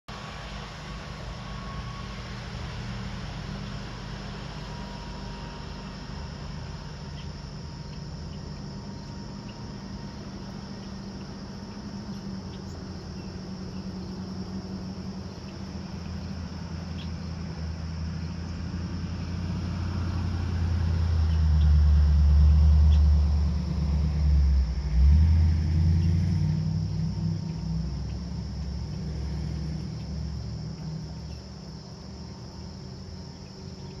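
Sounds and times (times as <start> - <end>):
motorboat engine droning: 0.0 - 34.0
crickets chirping: 0.1 - 34.0.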